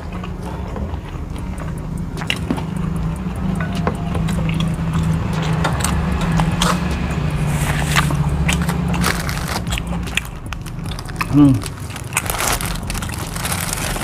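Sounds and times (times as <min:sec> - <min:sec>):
chewing and crunching food: 0:00.0 - 0:14.0
low rumble: 0:00.0 - 0:14.0
mouth clicks and smacks: 0:00.1 - 0:13.2.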